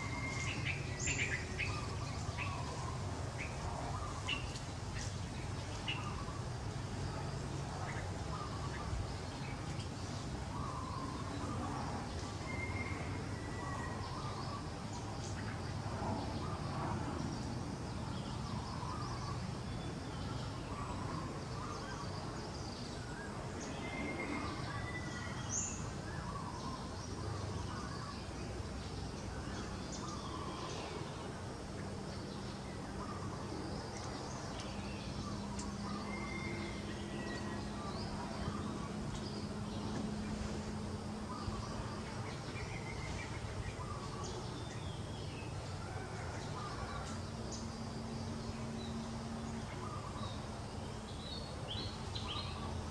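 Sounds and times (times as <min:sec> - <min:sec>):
birds calling and chirping: 0:00.0 - 0:52.9
outdoor background noise: 0:00.0 - 0:52.9.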